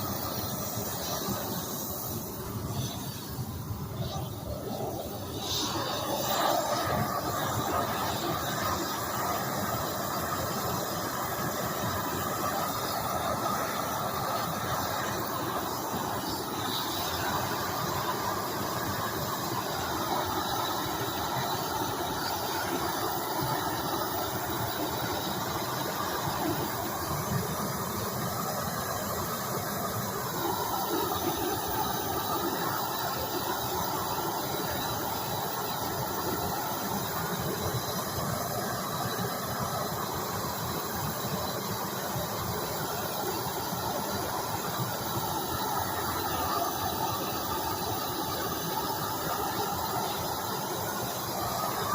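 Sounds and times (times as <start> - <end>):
gas torch flame hissing: 0.0 - 51.9.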